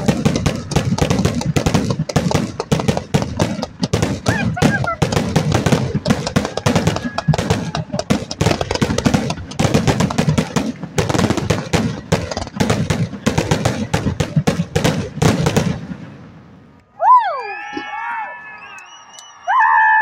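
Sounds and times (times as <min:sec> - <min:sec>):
fireworks bangs and crackles: 0:00.0 - 0:16.6.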